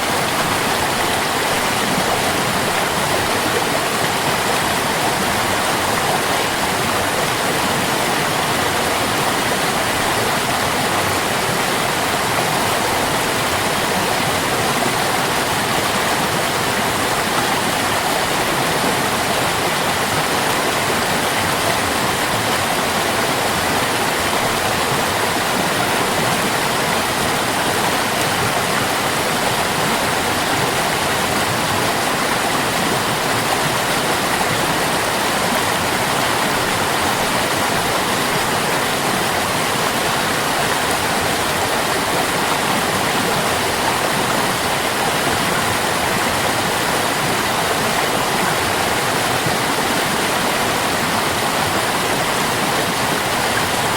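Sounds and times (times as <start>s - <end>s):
water stream flowing: 0.0s - 53.9s.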